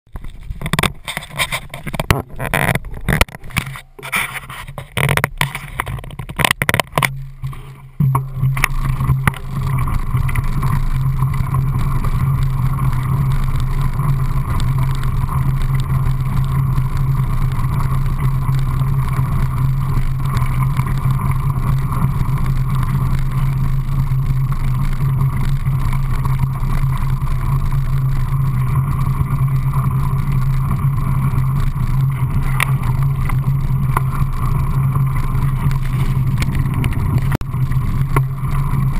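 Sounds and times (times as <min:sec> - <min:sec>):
bike knocking and clattering: 0:00.1 - 0:38.9
tyres droning on gravel: 0:00.1 - 0:38.9.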